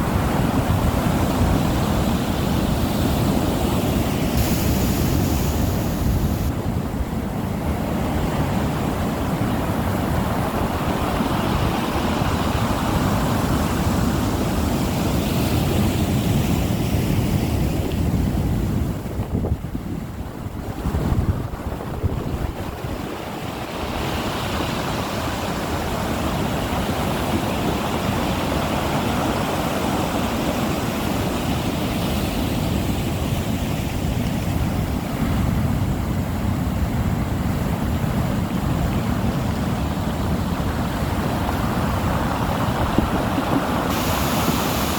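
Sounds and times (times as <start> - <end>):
waves surging and breaking: 0.0 - 44.9
wind buffeting microphone: 0.0 - 44.9.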